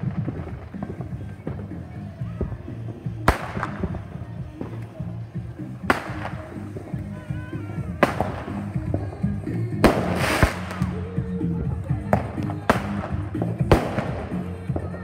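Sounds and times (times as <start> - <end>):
background music: 0.0 - 15.0
firework bangs: 0.0 - 15.0
firework crackling burst: 0.0 - 15.0.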